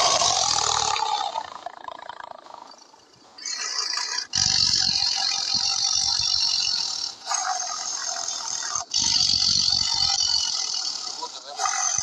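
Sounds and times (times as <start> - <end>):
tiger growling: 0.0 - 12.0.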